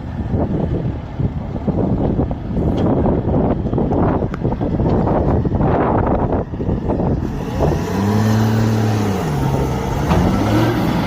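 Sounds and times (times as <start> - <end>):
heavy vehicle engine rumbling: 0.0 - 11.0.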